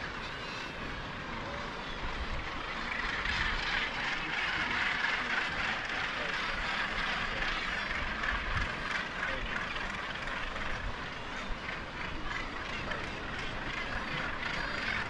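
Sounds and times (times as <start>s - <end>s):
seabird colony calling: 0.0s - 15.0s
wind buffeting microphone: 0.8s - 15.0s.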